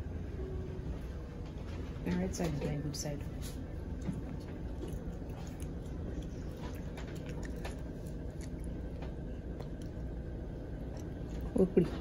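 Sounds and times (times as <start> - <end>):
low steady hum: 0.0 - 12.0
faint clicks and rustles of handling: 1.0 - 12.0.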